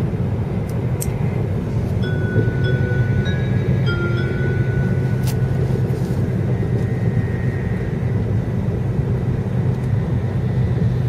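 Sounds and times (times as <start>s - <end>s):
train rumble inside cabin: 0.0s - 11.0s.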